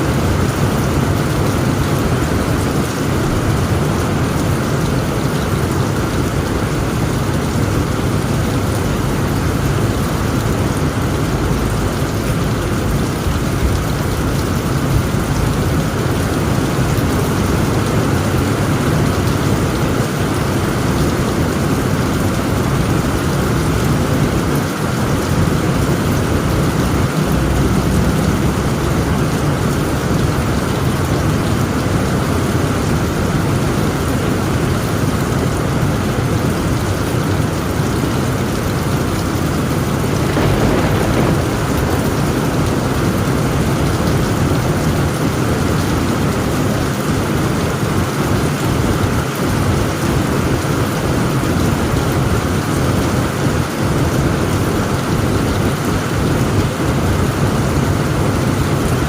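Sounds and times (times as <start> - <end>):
heavy rain on a tent roof: 0.0 - 59.0
low rumble of storm and wind: 0.0 - 59.0.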